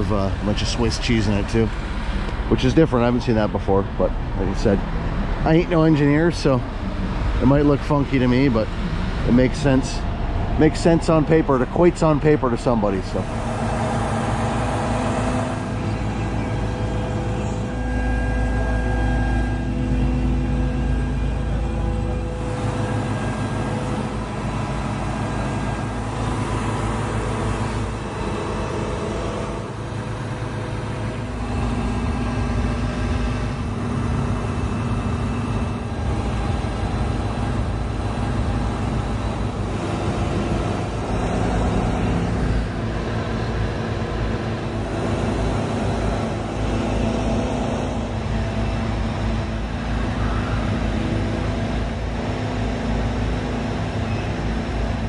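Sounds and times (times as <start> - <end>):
concrete pump engine droning: 0.0 - 55.0.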